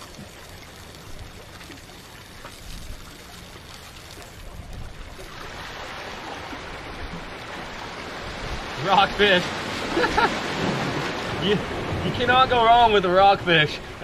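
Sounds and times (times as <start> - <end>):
waves washing against rocks: 0.0 - 14.0.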